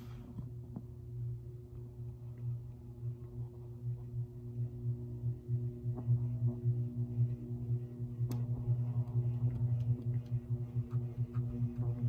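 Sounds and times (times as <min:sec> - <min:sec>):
ceiling fan motor humming: 0:00.0 - 0:12.0.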